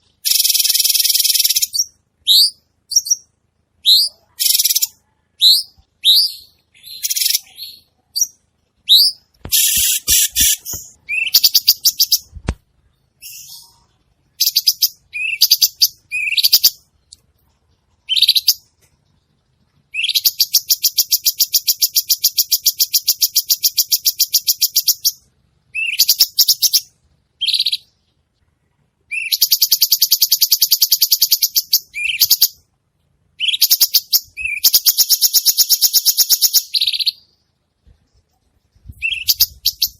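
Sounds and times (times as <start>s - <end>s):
songbird whistling and trilling: 0.2s - 12.4s, 13.2s - 16.8s, 18.0s - 18.6s, 19.9s - 27.9s, 29.1s - 32.6s, 33.4s - 37.4s, 38.8s - 39.9s.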